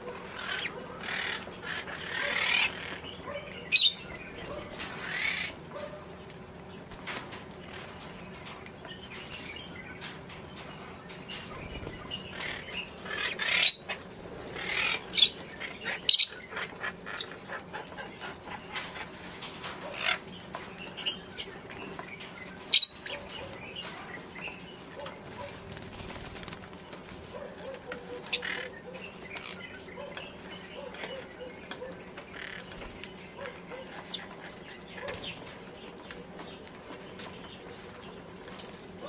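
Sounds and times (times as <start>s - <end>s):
lovebirds chirping and squawking: 0.0s - 39.0s
wings fluttering: 4.1s - 22.0s, 22.6s - 29.6s, 31.9s - 39.0s.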